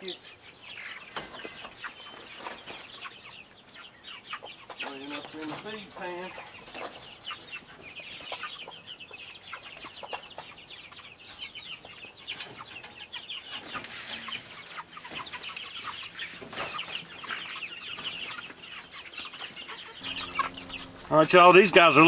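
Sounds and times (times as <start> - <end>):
chickens cheeping and clucking: 0.0 - 21.9.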